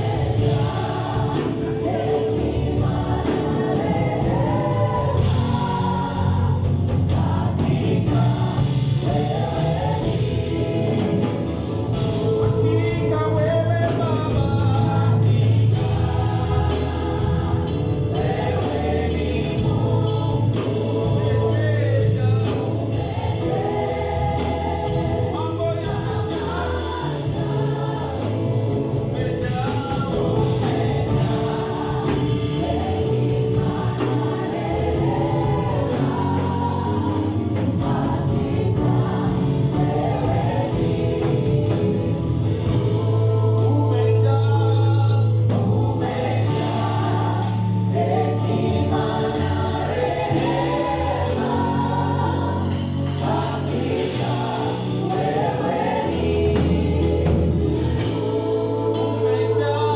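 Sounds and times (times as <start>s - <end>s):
band playing with bass: 0.0s - 59.9s
choir singing: 0.0s - 59.9s.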